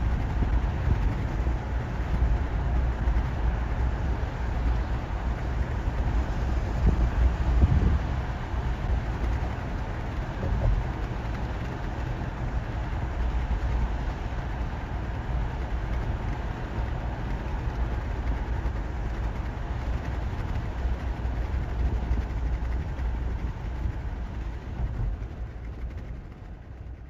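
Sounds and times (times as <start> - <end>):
low outdoor ambient rumble: 0.0 - 27.0.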